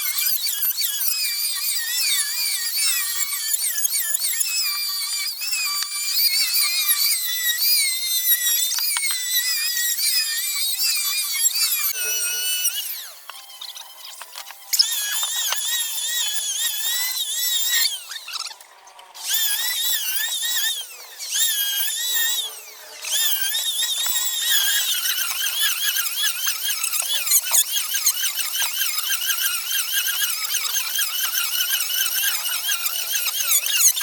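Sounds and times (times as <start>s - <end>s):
power tool motor whining: 0.0s - 34.0s.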